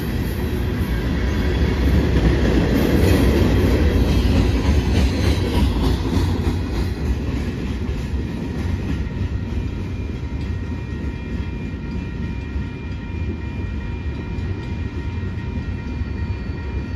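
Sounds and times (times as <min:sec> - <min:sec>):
train cars rolling on rails: 0:00.0 - 0:16.9.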